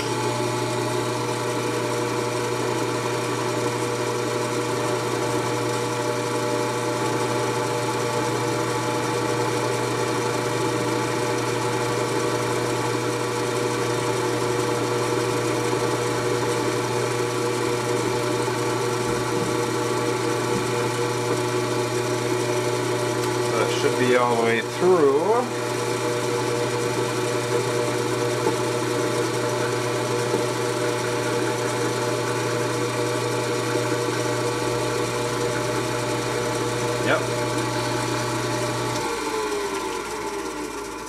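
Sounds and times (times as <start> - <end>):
mill spindle humming and whining: 0.0 - 41.0.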